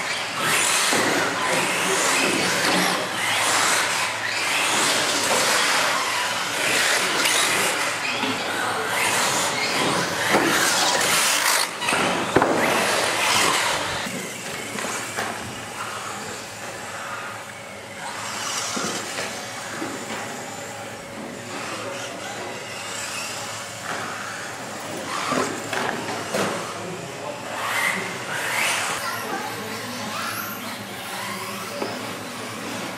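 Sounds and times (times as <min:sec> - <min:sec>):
rc cars running on track: 0:00.0 - 0:32.9.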